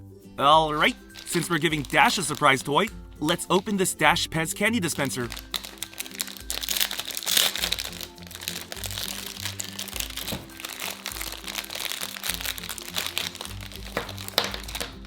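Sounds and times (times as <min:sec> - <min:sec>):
upbeat background music: 0:00.0 - 0:15.0
plastic packaging crinkling: 0:00.7 - 0:03.8, 0:04.9 - 0:15.0.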